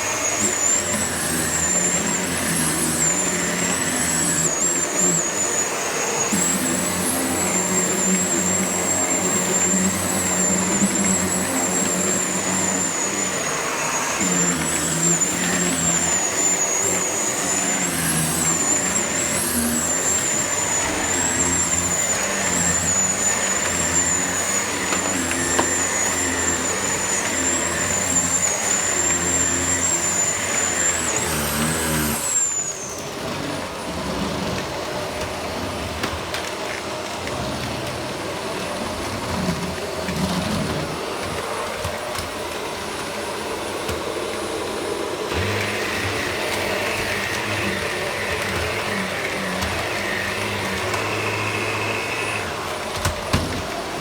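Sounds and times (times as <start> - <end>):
vacuum cleaner whine: 0.0 - 54.0.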